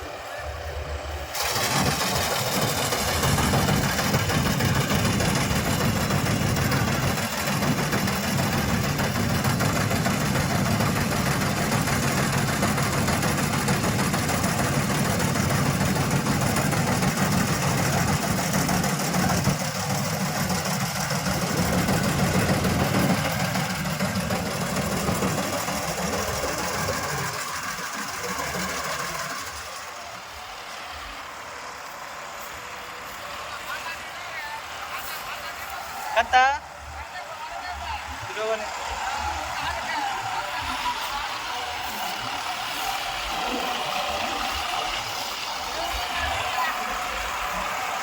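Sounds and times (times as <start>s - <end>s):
combine harvester engine drone: 0.0s - 48.0s.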